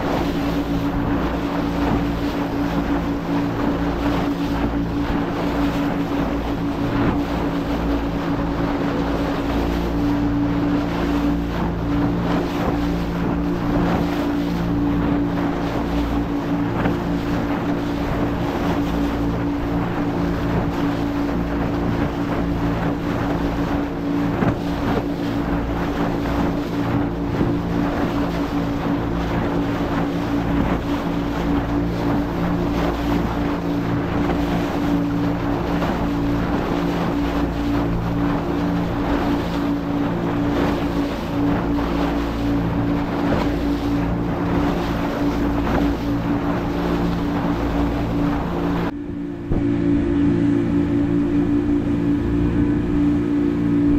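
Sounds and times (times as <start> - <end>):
motorboat engine running: 0.0 - 53.9
water rushing past hull: 0.0 - 53.9
wind buffeting microphone: 0.0 - 53.9.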